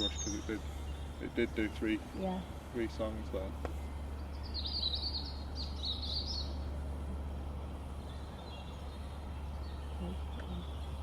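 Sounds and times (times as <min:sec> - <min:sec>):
song thrush singing: 0:00.0 - 0:11.0.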